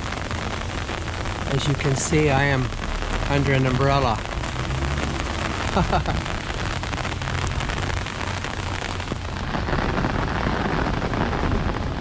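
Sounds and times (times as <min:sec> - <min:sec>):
heavy rain on an umbrella: 0:00.0 - 0:12.0.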